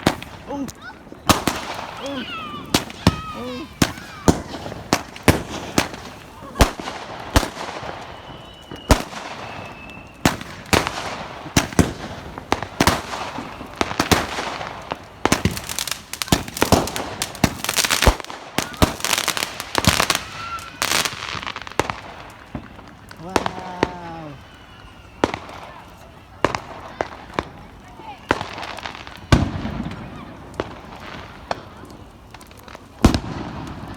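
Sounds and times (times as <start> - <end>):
fireworks bangs: 0.0 - 33.9
fireworks crackling bursts: 0.0 - 33.9.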